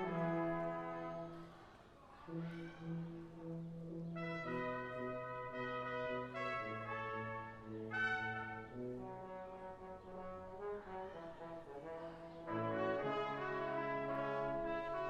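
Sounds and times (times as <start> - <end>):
brass quintet playing: 0.0 - 1.5, 2.3 - 15.0.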